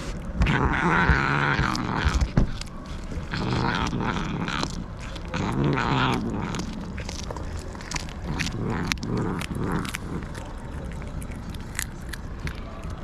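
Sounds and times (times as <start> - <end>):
cats wavering cries: 0.7 - 11.9.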